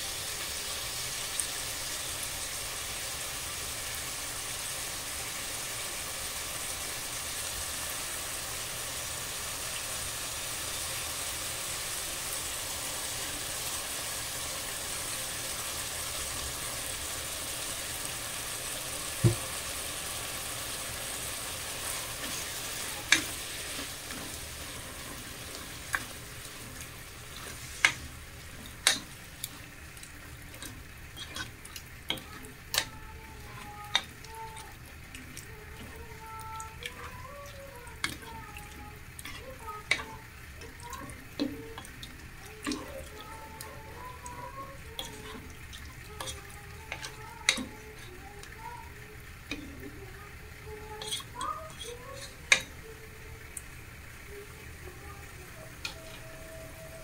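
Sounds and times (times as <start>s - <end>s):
chicken and onions sizzling: 0.0s - 57.0s.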